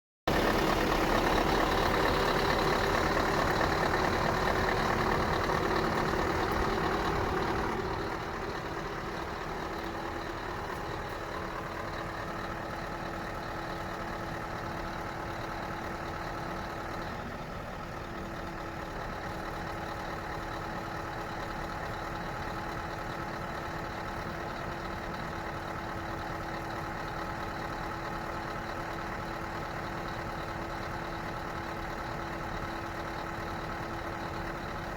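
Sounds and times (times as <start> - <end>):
diesel engine idling: 0.3 - 34.9.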